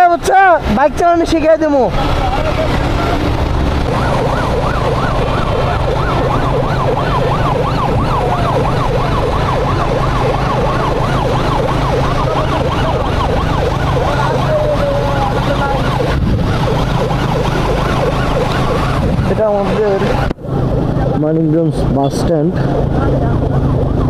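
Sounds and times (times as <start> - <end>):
emergency siren yelping: 0.0 - 21.2, 22.6 - 24.0
motorcycle engine drone: 0.0 - 24.0
wind: 0.0 - 24.0.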